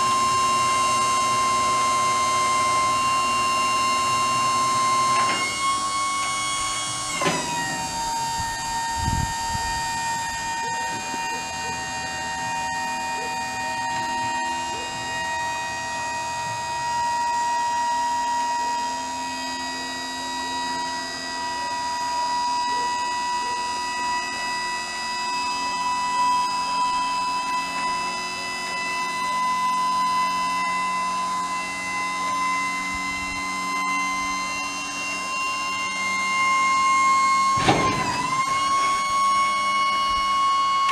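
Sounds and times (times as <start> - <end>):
truck mechanical whine: 0.0 - 40.9.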